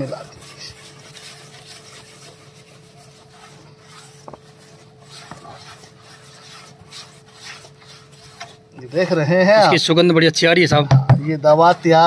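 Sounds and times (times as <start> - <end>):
hand scraping powder in plastic tub: 0.0 - 10.8.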